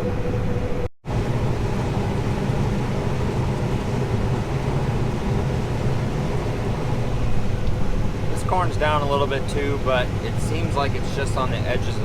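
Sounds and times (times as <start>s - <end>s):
combine harvester droning: 0.0s - 12.0s
faint constant hum: 0.0s - 12.0s.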